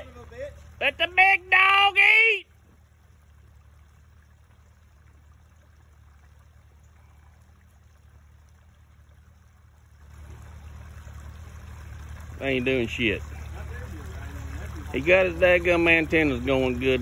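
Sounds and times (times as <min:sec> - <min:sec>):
utv engines droning: 0:00.0 - 0:17.0.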